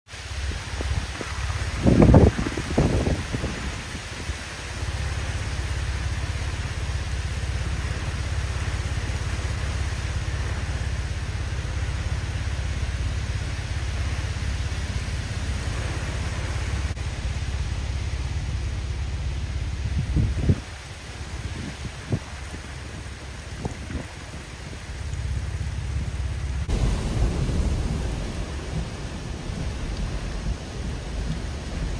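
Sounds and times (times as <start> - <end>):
driving rain hiss: 0.1 - 31.9
wind buffeting microphone: 0.2 - 31.9.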